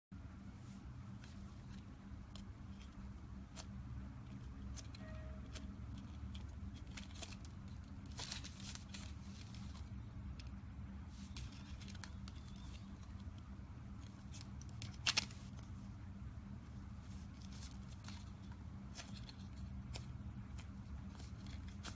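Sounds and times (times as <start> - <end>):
steady low hum: 0.1 - 21.9.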